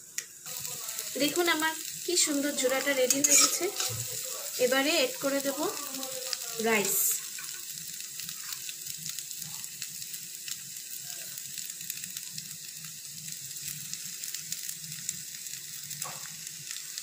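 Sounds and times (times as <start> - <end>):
egg sizzling in oil: 0.0 - 17.0.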